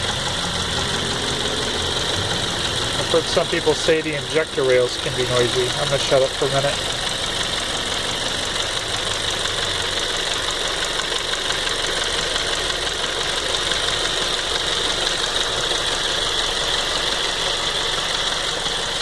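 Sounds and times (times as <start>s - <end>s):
car engine idling: 0.0s - 19.0s
engine ticking noise: 0.0s - 19.0s.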